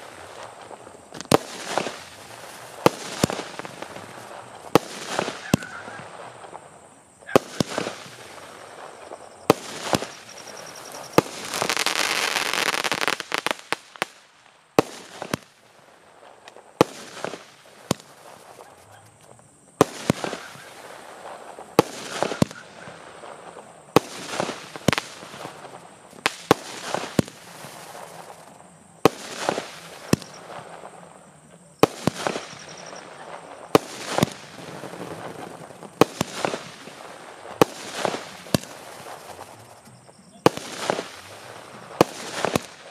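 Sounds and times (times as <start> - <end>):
firework bangs: 0.0 - 42.9
firework crackling: 0.0 - 42.9
loud dense hiss: 0.0 - 42.9.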